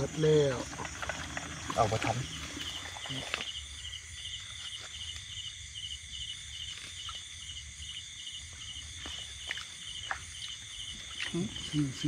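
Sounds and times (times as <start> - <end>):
high insect chorus: 0.0 - 12.0
insect chirping in pulses: 0.0 - 12.0.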